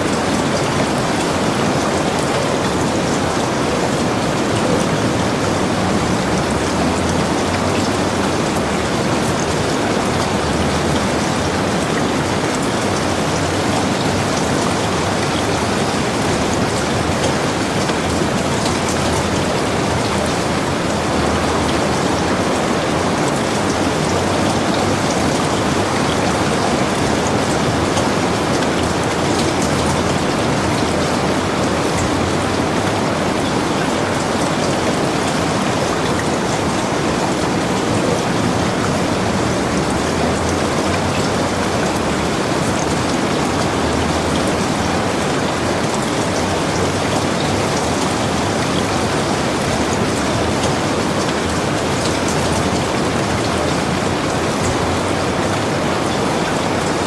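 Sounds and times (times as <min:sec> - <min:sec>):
heavy rain on roof: 0:00.0 - 0:57.0.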